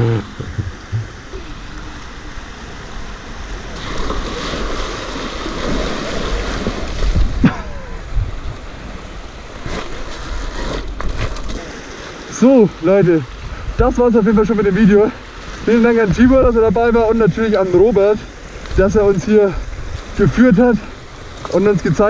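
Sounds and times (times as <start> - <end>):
wind rumbling on microphone: 0.0 - 11.6, 13.3 - 22.0
mountain stream rushing: 0.0 - 22.0.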